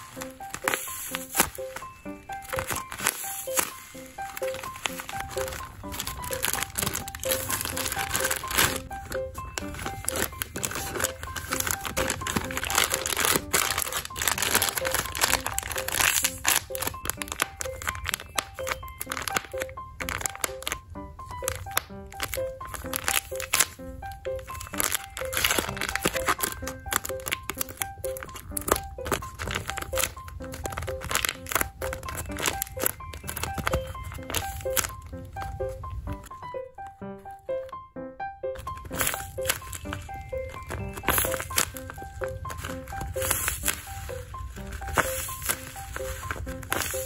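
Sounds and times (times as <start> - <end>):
plastic bag crinkling: 0.0 - 37.7, 38.6 - 47.0
background music: 0.0 - 47.0.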